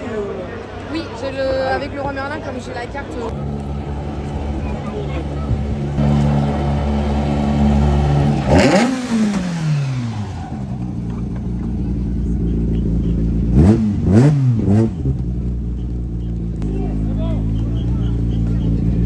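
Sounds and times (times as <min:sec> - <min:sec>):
car engine idling: 0:00.0 - 0:19.0
engine throttle blips: 0:03.2 - 0:19.0.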